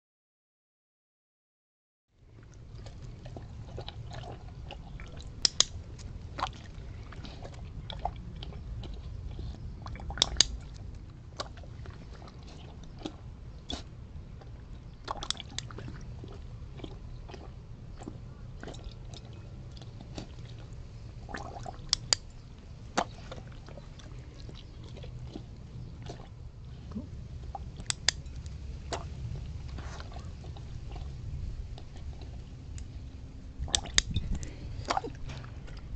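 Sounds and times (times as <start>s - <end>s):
low rumble: 2.2s - 35.9s
dog blowing bubbles in water: 2.4s - 22.3s, 22.9s - 28.1s, 28.8s - 33.0s, 33.6s - 35.9s.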